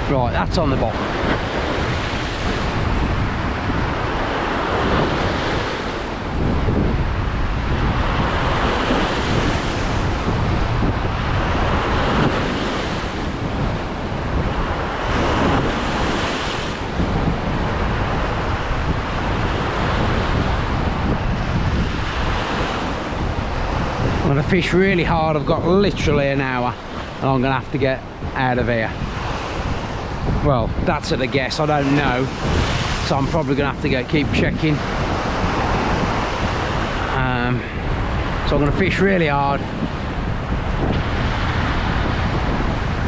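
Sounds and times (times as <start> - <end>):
sea surf washing: 0.0 - 43.0
wind buffeting microphone: 0.0 - 43.0.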